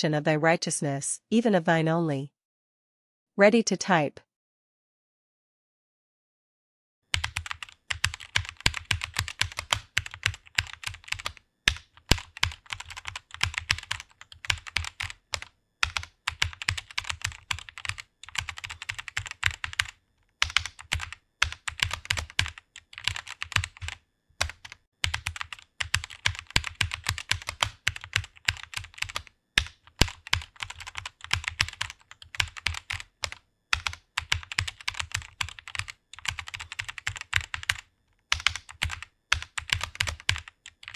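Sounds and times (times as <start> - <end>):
computer keyboard typing: 7.1 - 40.9.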